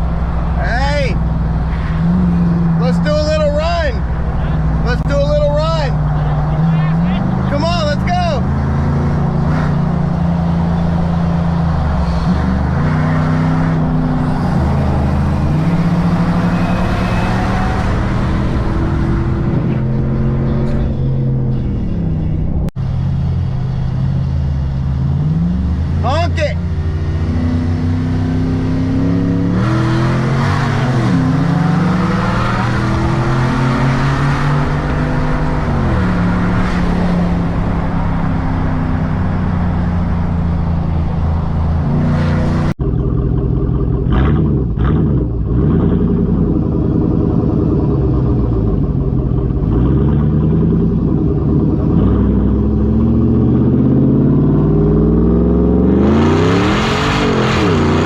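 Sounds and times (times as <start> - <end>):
truck engine accelerating hard: 0.0 - 58.0.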